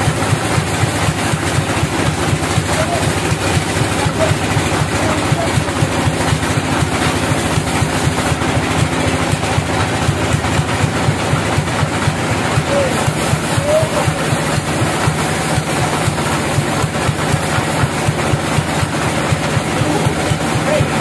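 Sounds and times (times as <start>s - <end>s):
sawmill machinery droning: 0.0s - 21.0s.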